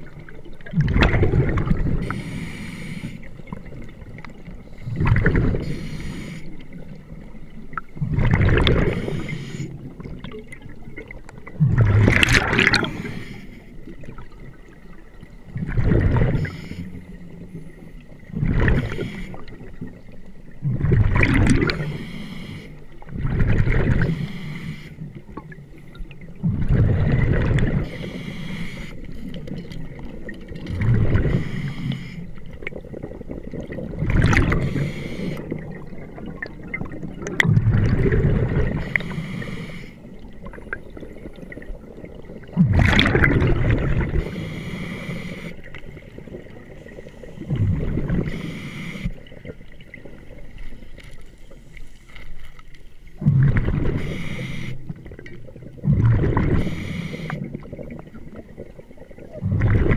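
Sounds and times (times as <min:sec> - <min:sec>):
regulator bubbling exhaust underwater: 0:00.0 - 0:51.8, 0:53.1 - 0:59.9.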